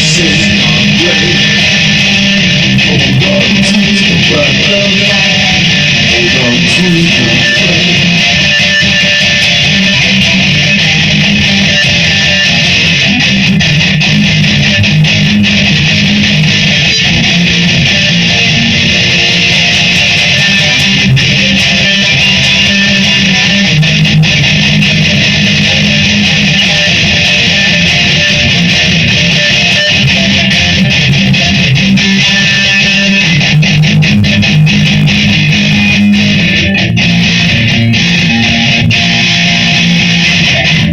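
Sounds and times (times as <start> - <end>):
guitar strumming: 0.0 - 40.9.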